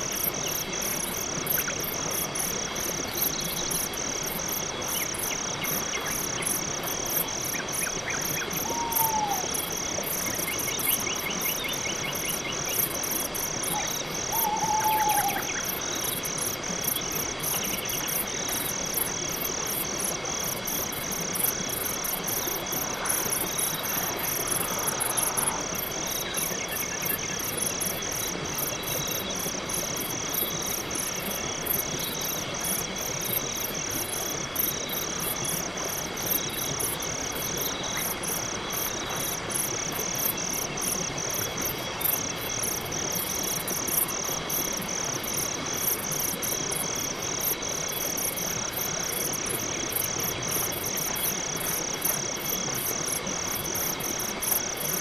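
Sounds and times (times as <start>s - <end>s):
crickets chirping: 0.0s - 55.0s
insects hissing: 0.0s - 55.0s.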